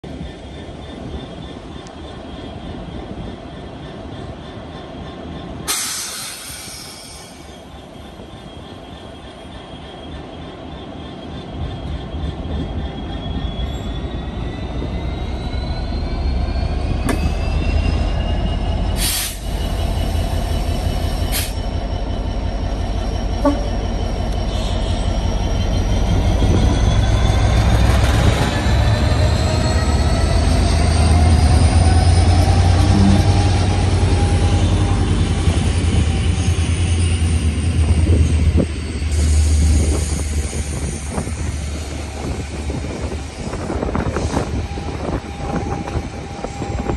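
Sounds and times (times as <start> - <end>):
diesel locomotive engine drone: 0.0 - 46.9
train wheels rolling: 0.1 - 46.9.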